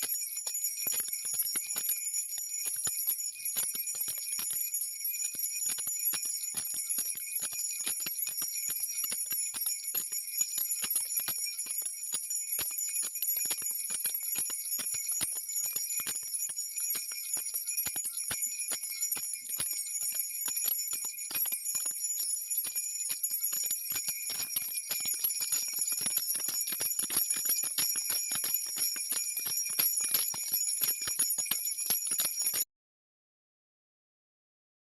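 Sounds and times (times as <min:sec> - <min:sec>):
jingle bells shaking: 0:00.0 - 0:32.7.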